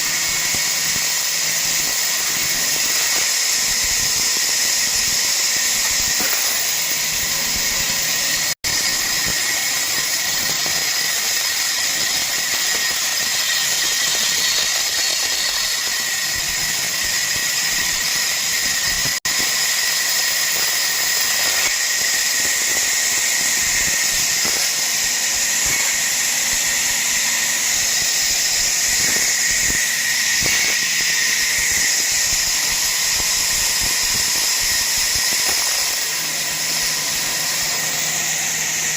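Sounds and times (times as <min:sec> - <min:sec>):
power saw cutting wood: 0:00.0 - 0:38.9.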